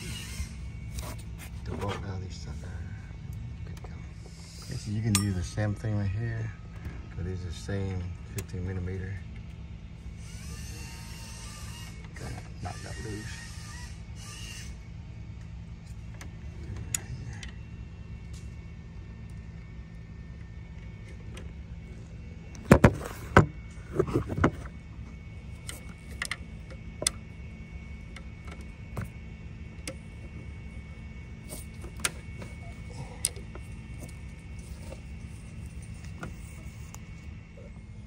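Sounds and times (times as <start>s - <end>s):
steady low rumble: 0.0s - 10.5s, 14.0s - 38.0s.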